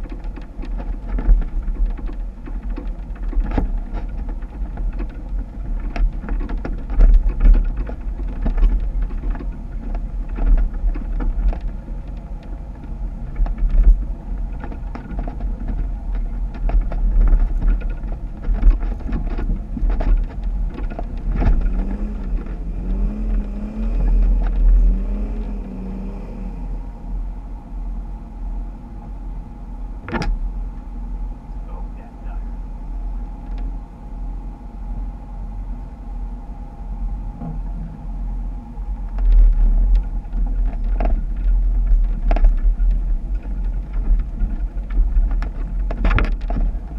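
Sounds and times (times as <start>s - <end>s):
vehicle knocks and clatters: 0.0s - 27.2s, 29.9s - 32.4s, 37.2s - 46.9s
off-road vehicle engine rumbling: 0.0s - 46.9s.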